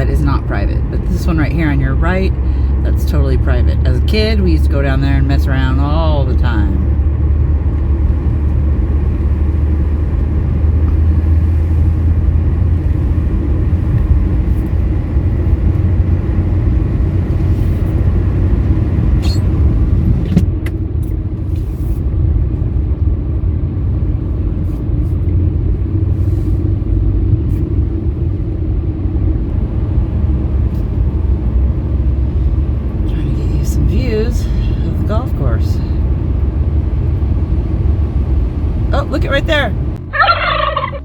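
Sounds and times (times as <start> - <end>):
car engine and tyres rumbling: 0.0 - 41.0.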